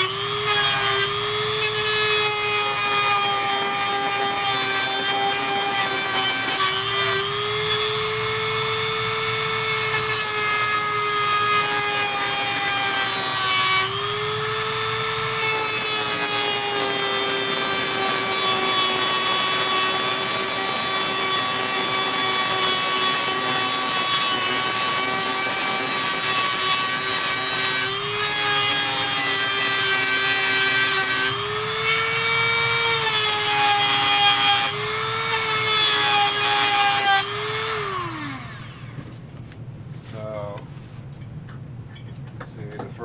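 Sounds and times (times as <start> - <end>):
rotary tool grinding metal: 0.0 - 39.0.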